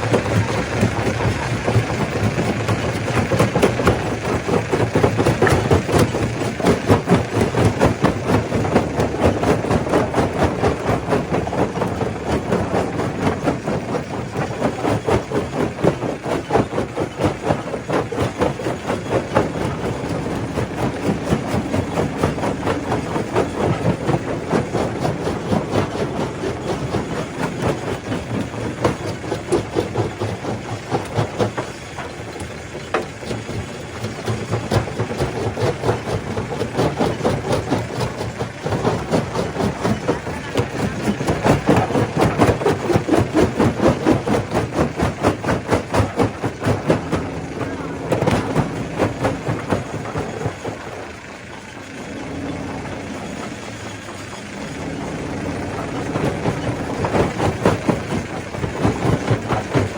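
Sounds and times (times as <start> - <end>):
machine drone: 0.0 - 59.9.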